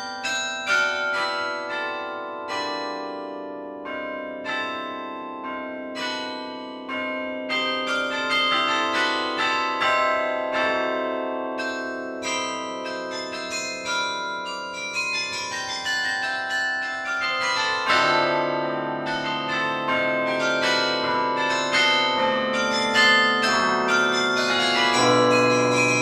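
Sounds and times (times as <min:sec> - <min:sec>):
carillon bell melody: 0:00.0 - 0:26.0
low bells ringing: 0:03.8 - 0:26.0.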